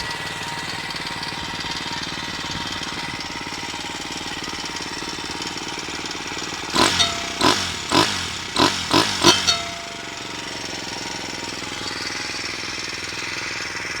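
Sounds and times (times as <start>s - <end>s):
engine revving: 0.0s - 13.2s
minibike engine idling: 0.0s - 14.0s.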